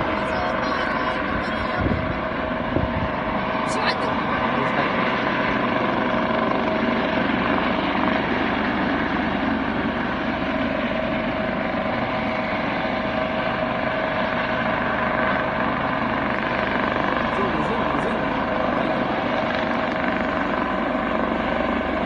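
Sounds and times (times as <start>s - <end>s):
helicopter hovering: 0.0s - 22.0s.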